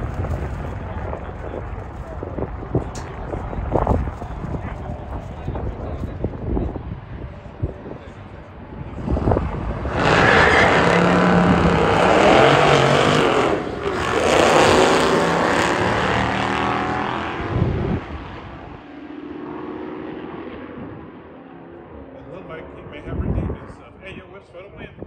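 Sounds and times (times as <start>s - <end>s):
racing car engines at full throttle: 0.0s - 24.2s.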